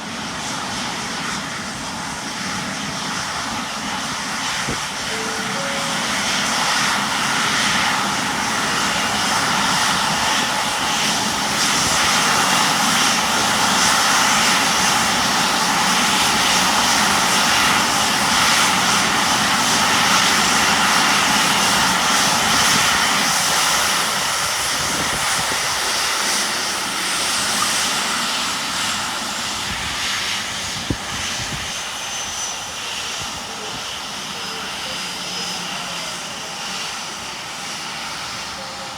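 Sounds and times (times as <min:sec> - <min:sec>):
jet engines passing: 0:00.0 - 0:38.9.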